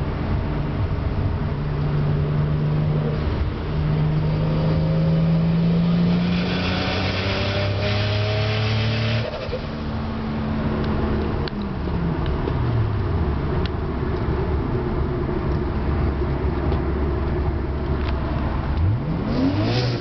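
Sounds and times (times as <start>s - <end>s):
car engine revving: 1.7s - 15.1s, 17.0s - 20.0s.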